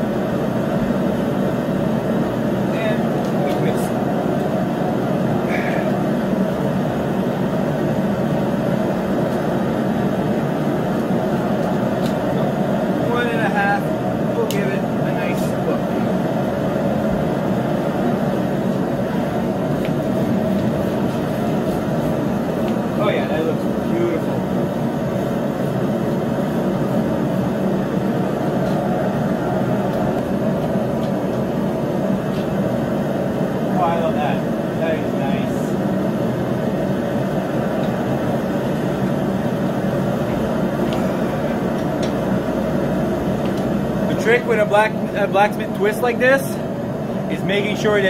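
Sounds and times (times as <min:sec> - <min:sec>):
forge roaring: 0:00.0 - 0:45.7.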